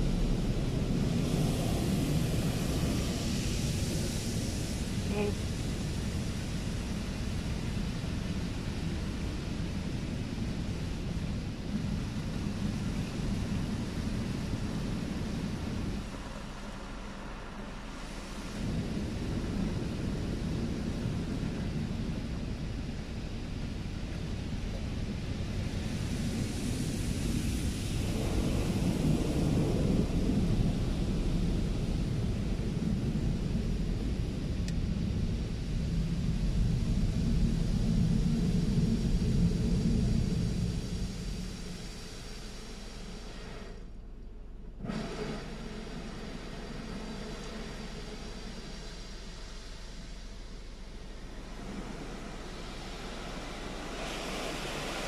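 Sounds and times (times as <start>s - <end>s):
car wash water spraying on car: 0.0s - 55.0s.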